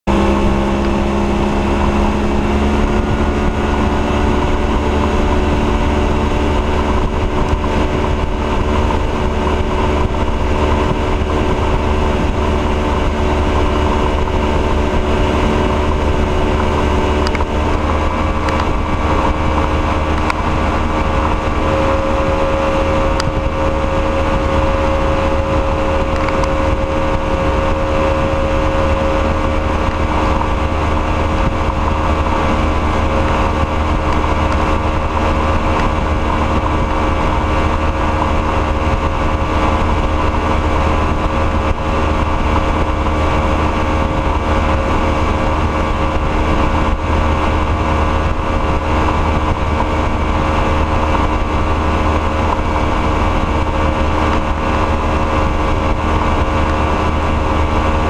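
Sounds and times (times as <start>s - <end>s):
rush of boat wake: 0.0s - 58.0s
speedboat engine running: 0.0s - 58.0s.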